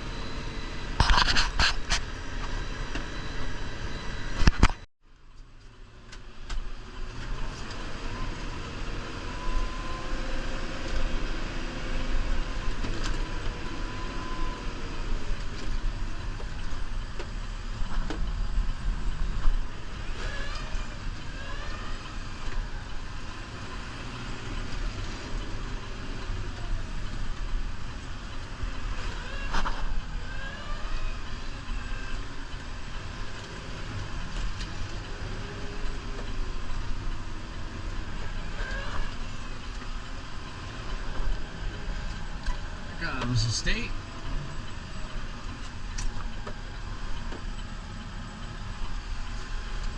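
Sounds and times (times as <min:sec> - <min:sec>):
tractor diesel engine rumbling: 0:00.0 - 0:49.9.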